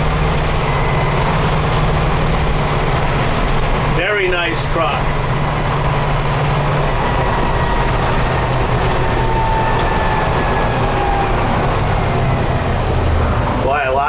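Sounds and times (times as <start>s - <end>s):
engine running from inside cab: 0.0s - 14.0s
road noise: 0.0s - 14.0s.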